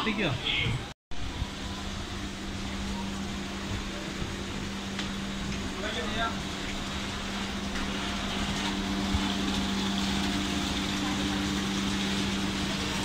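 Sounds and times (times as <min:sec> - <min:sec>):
ferry machinery hum: 0:00.8 - 0:13.0.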